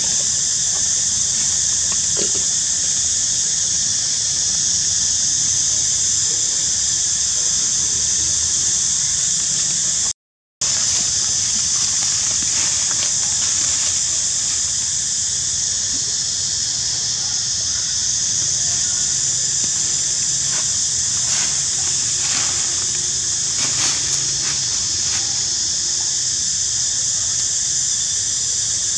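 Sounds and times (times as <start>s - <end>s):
steady high-pitched hiss: 0.0s - 28.9s.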